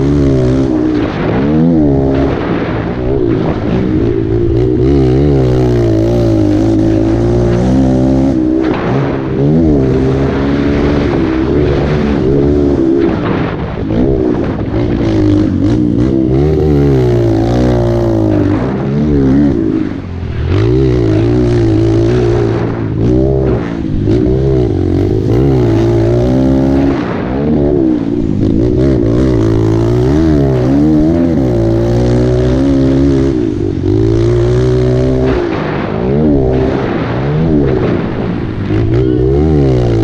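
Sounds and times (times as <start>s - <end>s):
motorbike engine revving: 0.0s - 40.0s.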